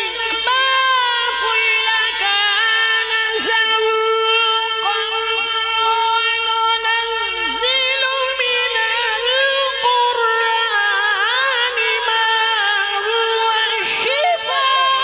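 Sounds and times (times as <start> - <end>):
man reciting in melodic chant: 0.0 - 15.0.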